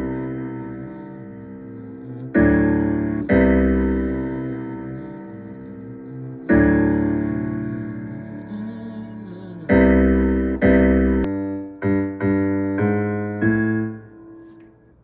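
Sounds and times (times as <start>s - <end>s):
deep bass: 0.0s - 14.0s
slow piano-like keyboard chords: 0.0s - 15.0s.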